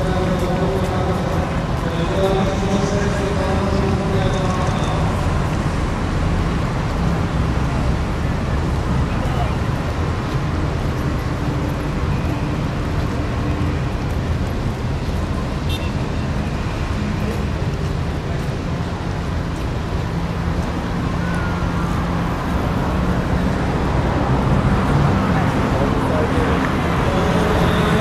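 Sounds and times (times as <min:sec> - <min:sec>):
harbour background noise: 0:00.0 - 0:28.0
wind: 0:00.0 - 0:28.0.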